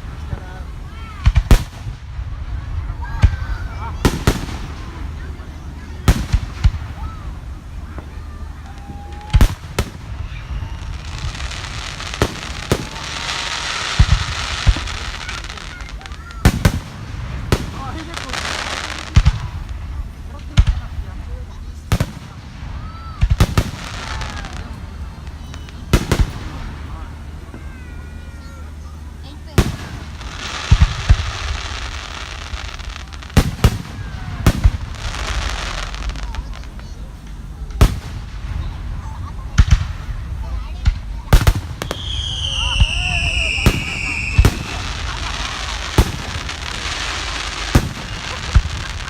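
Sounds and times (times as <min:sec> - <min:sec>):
fireworks booming: 0:00.0 - 0:49.0
high hissing crackle: 0:00.0 - 0:49.0.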